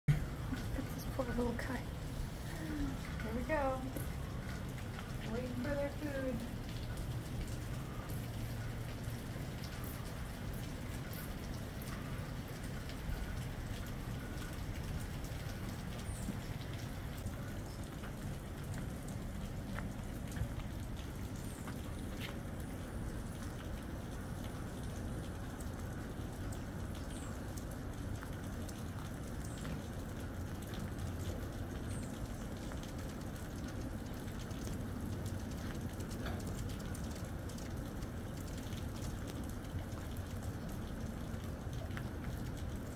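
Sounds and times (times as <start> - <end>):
steady rain: 0.1 - 42.9.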